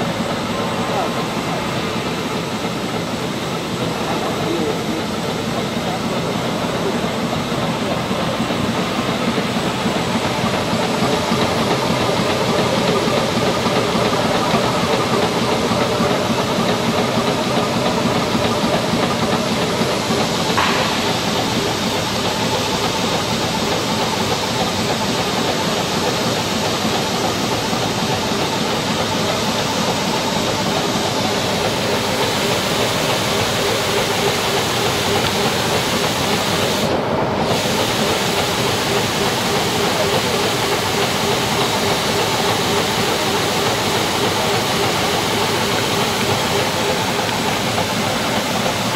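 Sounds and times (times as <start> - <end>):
sprayer fan rushing hiss: 0.0 - 48.9.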